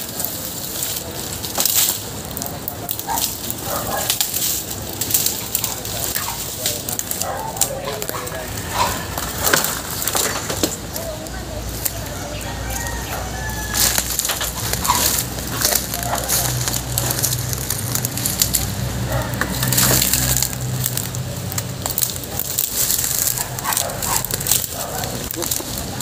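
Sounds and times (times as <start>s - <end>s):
debris crunching and clattering: 0.0s - 26.0s.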